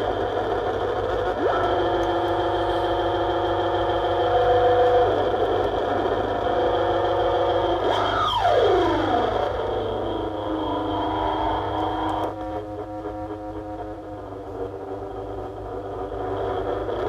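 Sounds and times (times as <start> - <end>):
buzzing noise drone: 0.0 - 17.0
steady low hum: 0.0 - 17.0.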